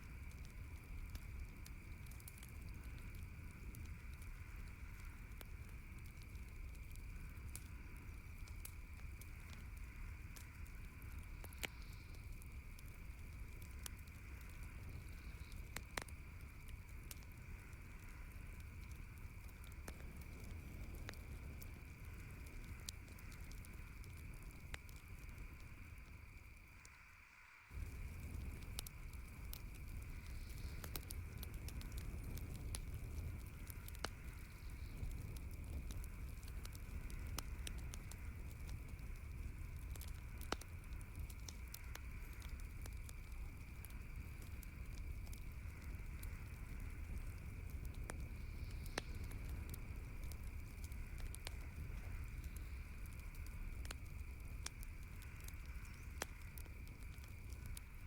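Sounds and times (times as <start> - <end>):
campfire crackling and popping: 0.0 - 58.0
low rumble of flames: 0.0 - 58.0.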